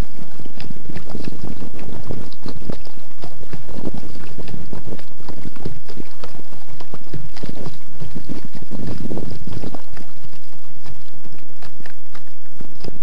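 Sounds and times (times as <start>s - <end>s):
water slapping against kayak: 0.0s - 13.0s
wind buffeting microphone: 0.0s - 13.0s.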